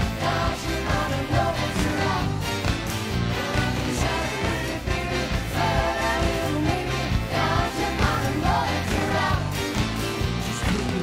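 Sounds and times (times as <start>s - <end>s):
bass: 0.0s - 11.0s.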